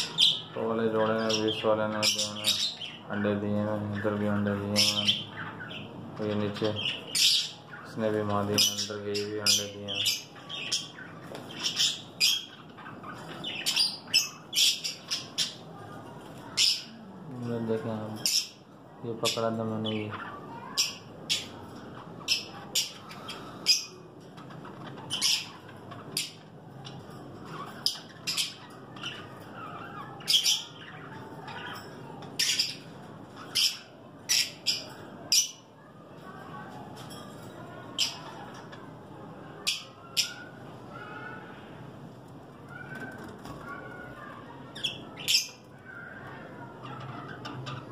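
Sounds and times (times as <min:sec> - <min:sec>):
murmur of birds: 0:00.0 - 0:47.9
parrots chirping and squawking: 0:00.0 - 0:47.9.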